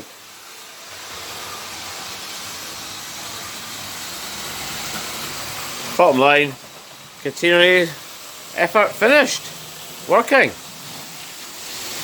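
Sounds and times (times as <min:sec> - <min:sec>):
model train motor and wheels hiss: 0:00.0 - 0:12.0.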